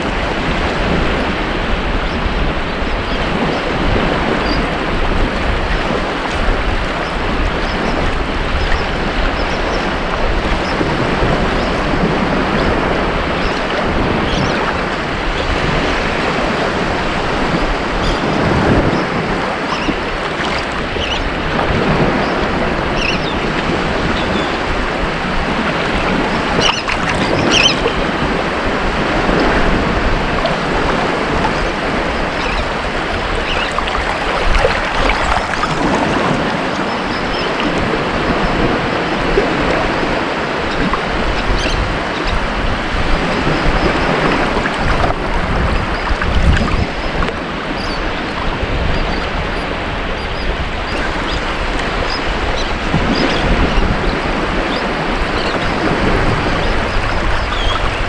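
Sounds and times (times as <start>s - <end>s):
waves breaking on a beach: 0.0s - 58.0s.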